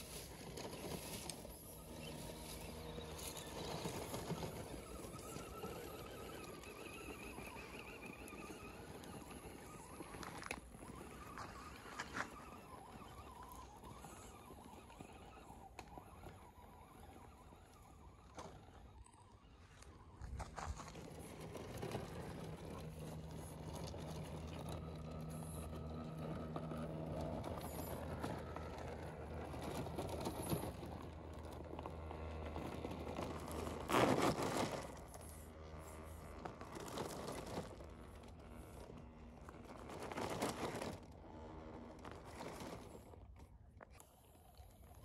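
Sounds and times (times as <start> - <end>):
electric motor and gearbox whine: 0.0 - 45.0
tyres crunching over rough ground: 0.0 - 45.0.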